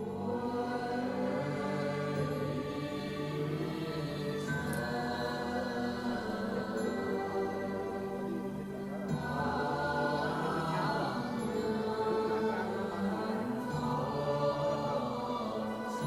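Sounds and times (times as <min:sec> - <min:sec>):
choir singing a chant-like hymn: 0:00.0 - 0:16.0.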